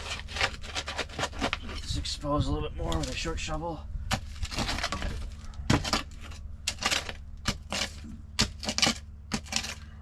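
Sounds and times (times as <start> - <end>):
shovel scraping gravelly soil: 0.0 - 2.2, 2.8 - 10.0
steady low hum: 0.0 - 10.0.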